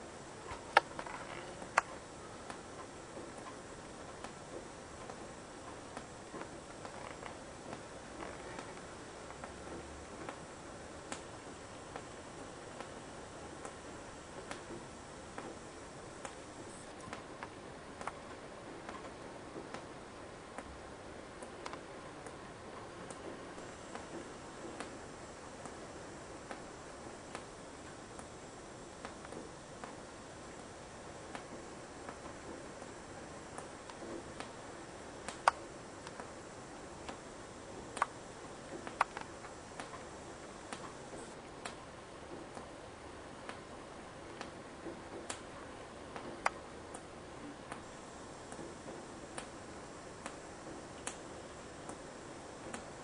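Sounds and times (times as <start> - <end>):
steady hiss: 0.0 - 53.0.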